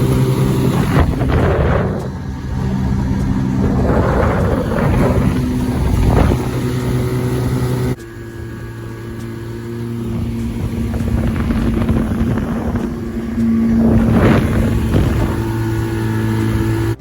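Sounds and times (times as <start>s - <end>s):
rushing wind and water: 0.0s - 8.0s, 9.8s - 17.0s
outboard motor humming: 0.0s - 17.0s.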